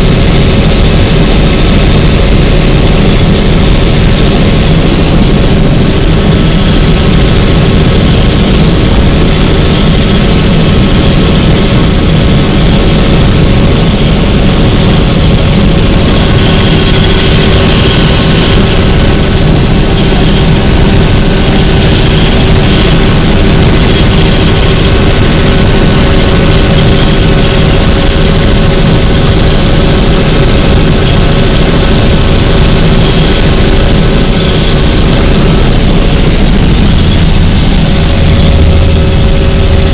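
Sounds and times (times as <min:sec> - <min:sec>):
helicopter engine and rotor drone: 0:00.0 - 0:39.9
high turbine whine: 0:00.0 - 0:39.9.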